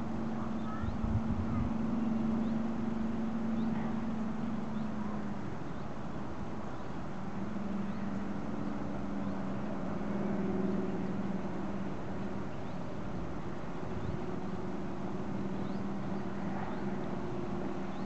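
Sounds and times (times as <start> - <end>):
distant diesel locomotive drone: 0.0 - 18.0.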